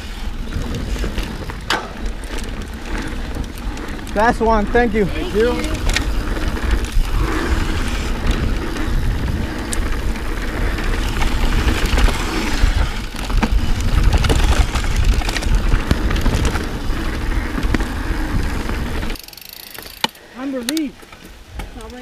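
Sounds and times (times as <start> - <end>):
wind rushing: 0.0 - 19.2
bike clicks and rattles: 0.0 - 22.0
bike tyre rumble: 0.0 - 22.0.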